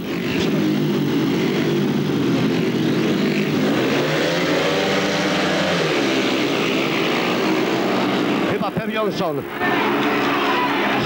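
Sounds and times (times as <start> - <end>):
motorcycles accelerating hard: 0.0 - 11.0.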